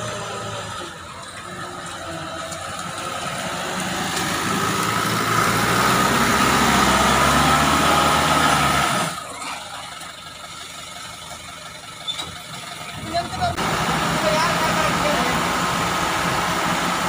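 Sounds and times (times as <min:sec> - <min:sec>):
truck diesel engine: 0:00.0 - 0:17.0.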